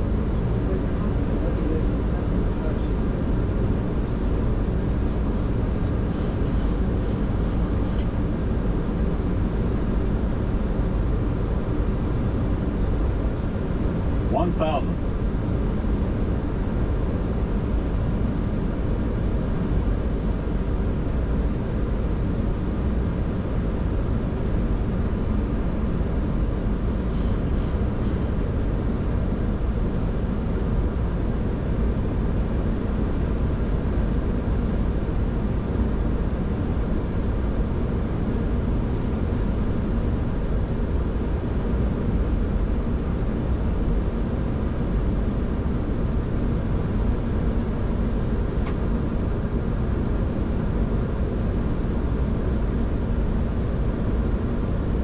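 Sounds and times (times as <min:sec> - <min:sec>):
rushing airflow and engines: 0:00.0 - 0:55.0.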